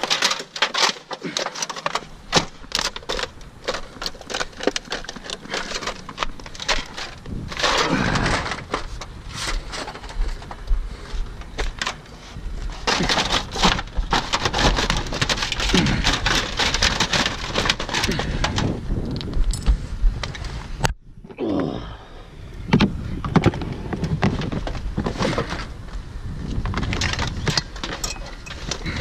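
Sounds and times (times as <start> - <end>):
siding panels clattering and scraping: 0.0 - 18.8, 22.7 - 25.9, 26.6 - 29.0.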